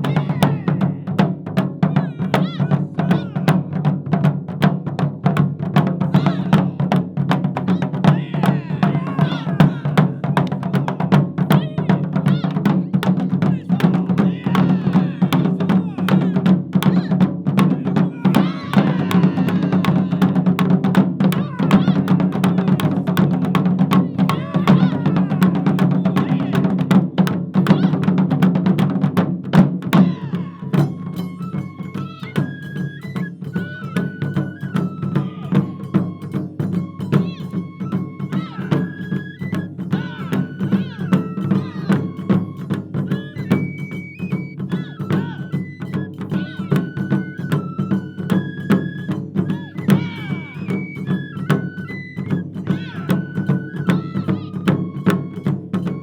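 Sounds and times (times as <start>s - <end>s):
taiko drums playing: 0.0s - 56.0s.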